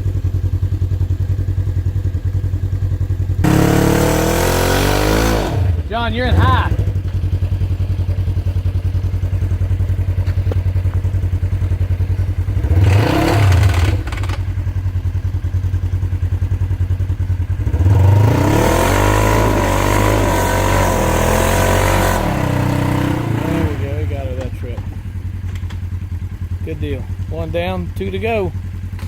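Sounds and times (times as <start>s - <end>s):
off-road vehicle engine revving: 2.9s - 29.0s.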